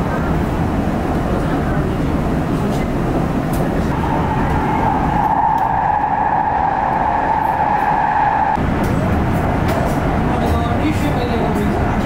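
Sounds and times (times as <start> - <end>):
train running at speed: 0.0 - 12.0.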